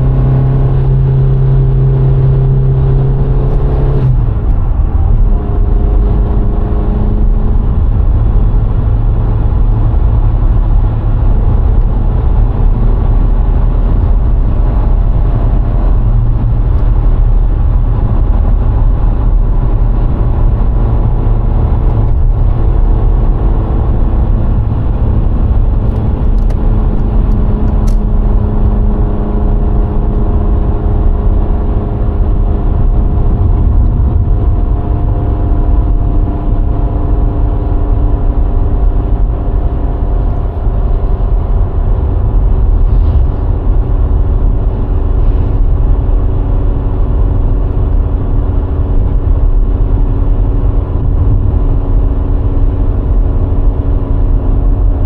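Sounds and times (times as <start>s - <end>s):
car engine running: 0.0s - 55.0s
road and tyre rumble: 0.0s - 55.0s.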